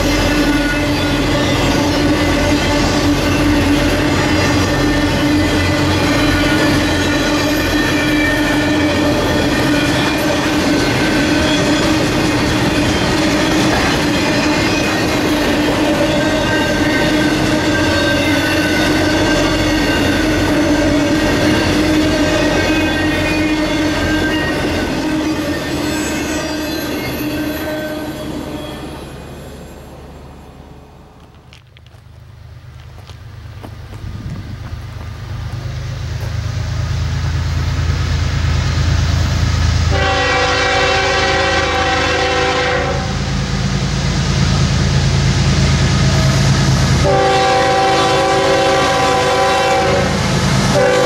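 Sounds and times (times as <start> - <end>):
train wheel squeal: 0.0 - 30.6, 35.5 - 51.0
freight train rolling past: 0.0 - 51.0.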